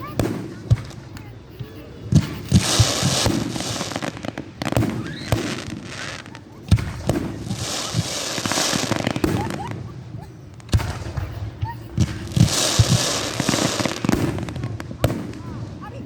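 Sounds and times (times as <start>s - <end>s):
fireworks dense crackling: 0.0s - 16.0s
fireworks sharp bangs: 0.0s - 16.0s.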